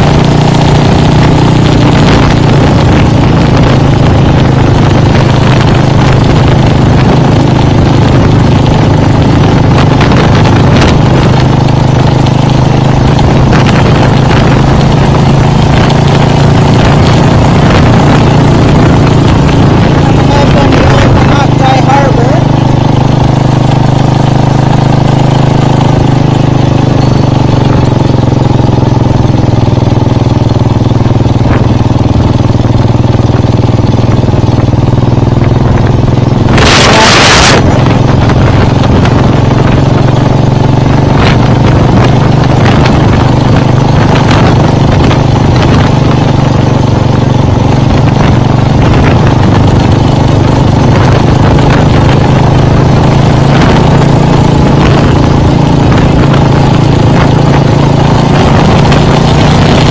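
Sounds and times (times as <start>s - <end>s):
loud rush of noise: 0.0s - 59.9s
motorcycle engine running: 0.0s - 59.9s.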